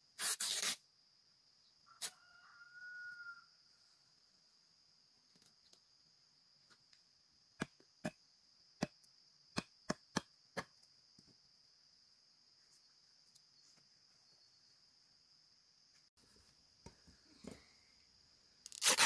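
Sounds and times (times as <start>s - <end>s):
crickets droning: 0.0s - 19.0s.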